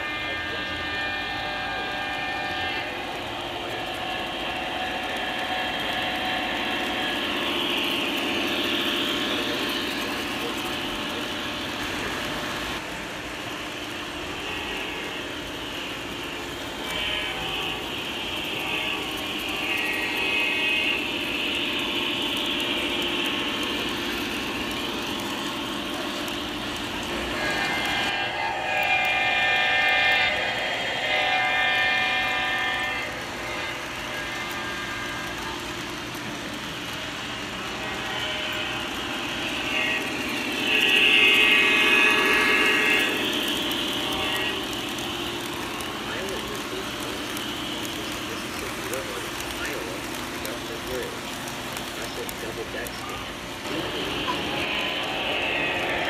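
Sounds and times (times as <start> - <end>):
diesel locomotive horn: 0.0 - 56.0
model train wheels clattering: 3.0 - 28.2, 32.2 - 54.9.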